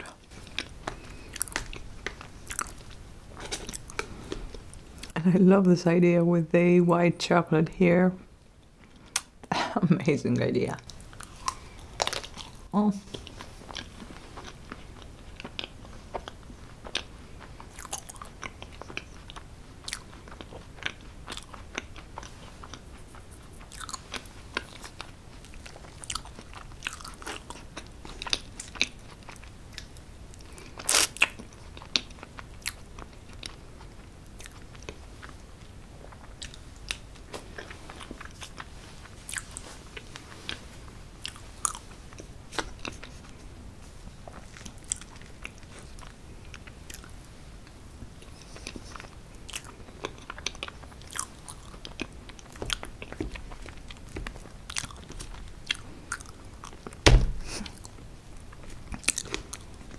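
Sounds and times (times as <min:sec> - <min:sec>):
chewing cake: 0:00.0 - 0:05.2, 0:10.8 - 0:43.6, 0:44.2 - 0:57.0, 0:57.6 - 0:59.9.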